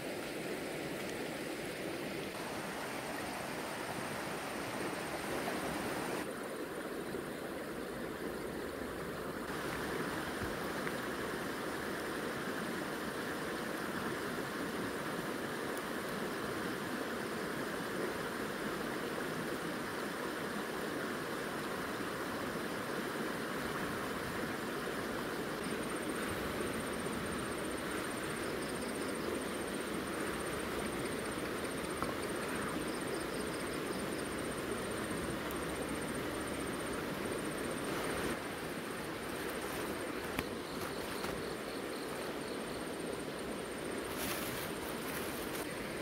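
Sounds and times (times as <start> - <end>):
river water rushing: 0.0 - 8.3, 8.9 - 46.0.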